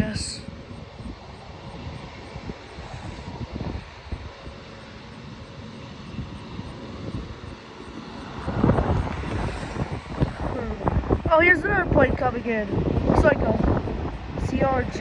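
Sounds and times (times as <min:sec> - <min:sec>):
distant jet engines rumbling: 0:00.0 - 0:15.0.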